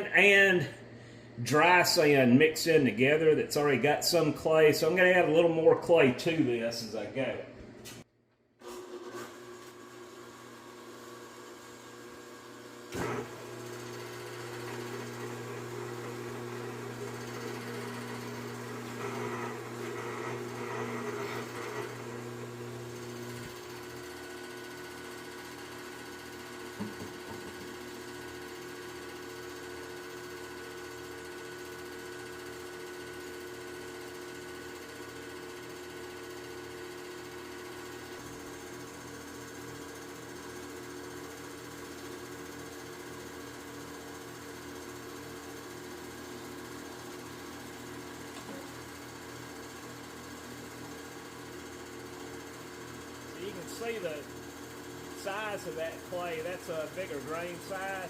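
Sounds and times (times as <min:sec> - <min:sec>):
sand mixer mechanical hum: 0:00.0 - 0:58.0.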